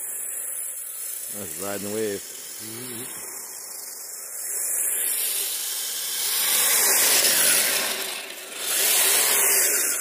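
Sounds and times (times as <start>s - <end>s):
electric motor whine: 0.0s - 10.0s.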